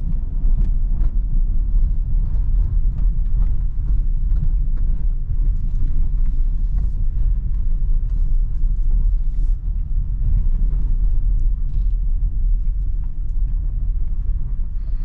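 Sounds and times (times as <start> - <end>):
low rumble inside car cabin: 0.0 - 15.0.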